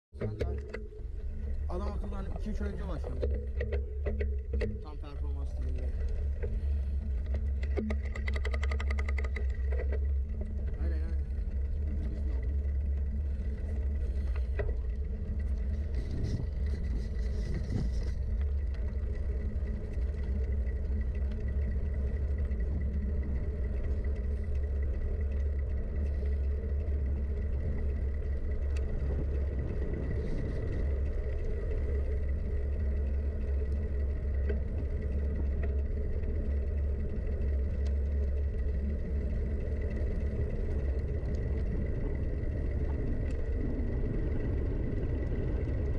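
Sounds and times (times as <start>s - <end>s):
low wind rumble on microphone: 0.2s - 45.9s
mountain bike rattling and clicking: 0.2s - 45.9s.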